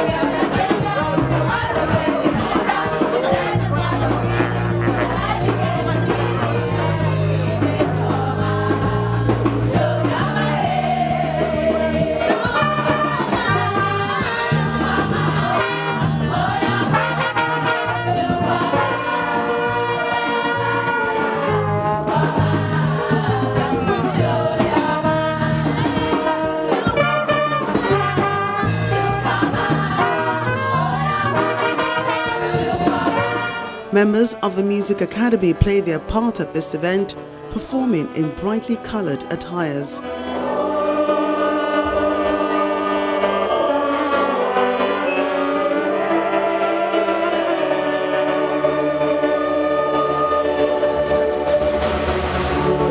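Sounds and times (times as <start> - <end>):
brass music with singing: 0.0 - 52.9.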